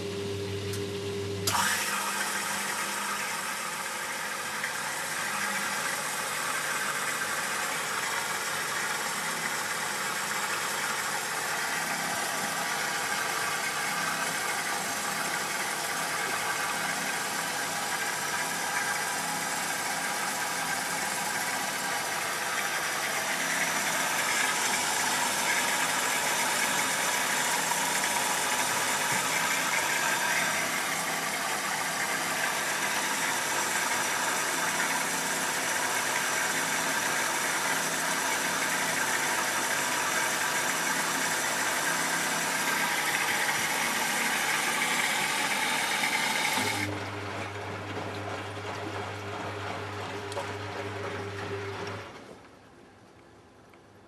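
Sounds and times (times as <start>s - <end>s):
washing machine running: 0.0s - 53.1s.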